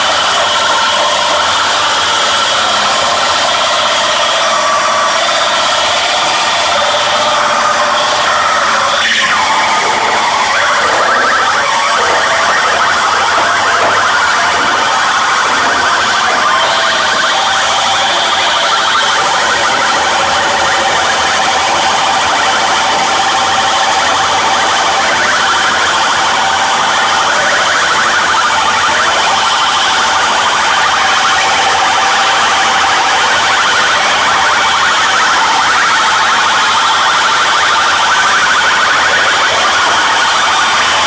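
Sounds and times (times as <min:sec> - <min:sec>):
wavering siren-like tones: 0:00.0 - 0:41.0.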